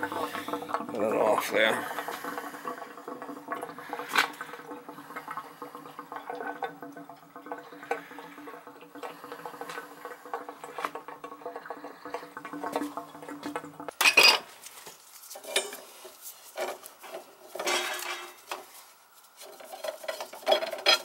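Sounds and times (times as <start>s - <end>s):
water running through hose: 0.0s - 21.0s.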